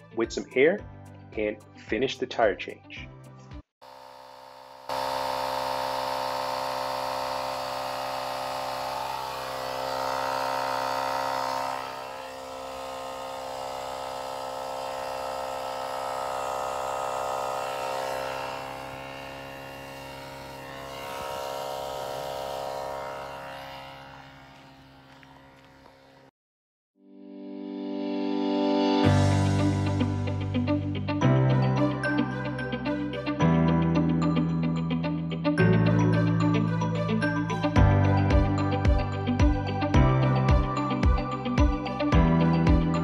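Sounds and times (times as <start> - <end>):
electric air compressor running: 3.8 - 26.4, 28.9 - 33.4, 35.6 - 43.0.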